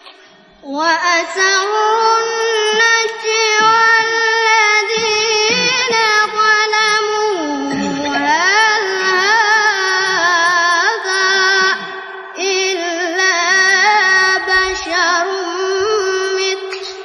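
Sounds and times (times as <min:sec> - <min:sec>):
boy reciting melodically: 0:00.0 - 0:17.0.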